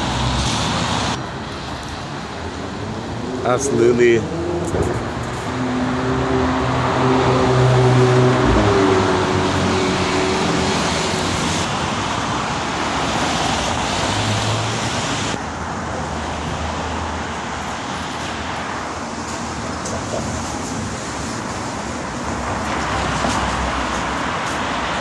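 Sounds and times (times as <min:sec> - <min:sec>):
traffic rushing: 0:00.0 - 0:25.0
vehicle engine hum: 0:00.0 - 0:25.0.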